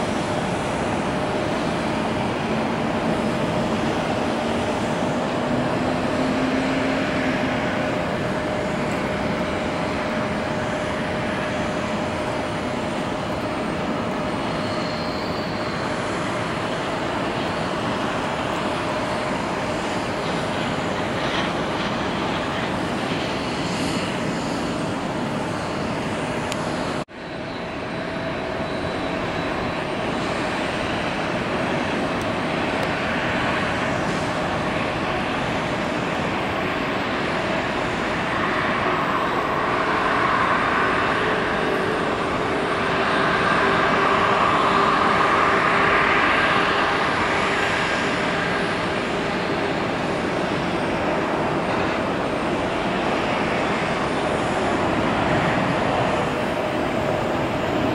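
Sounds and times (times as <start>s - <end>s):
jet engines taxiing: 0.0s - 57.9s.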